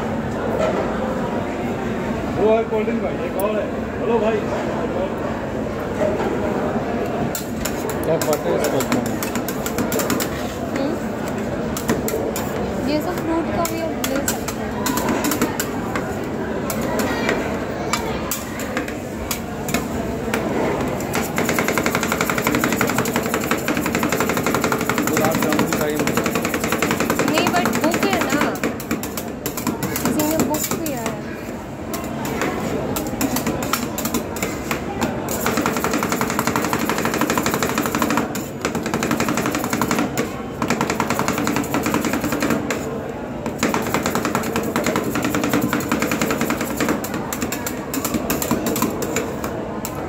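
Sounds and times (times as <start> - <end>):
spatula blades chopping on metal plate: 7.3 - 10.6, 11.2 - 31.2, 31.9 - 50.0.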